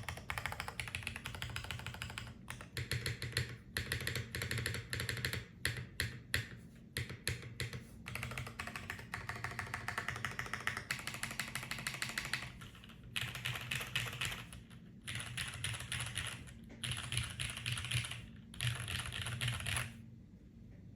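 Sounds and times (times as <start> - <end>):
typing on mechanical keyboard: 0.0 - 20.0.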